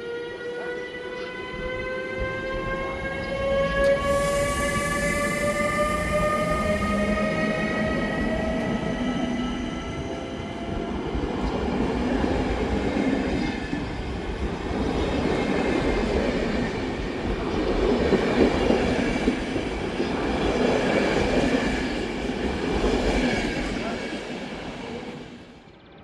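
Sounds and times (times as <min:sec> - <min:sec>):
train rumbling on tracks: 0:00.0 - 0:26.0.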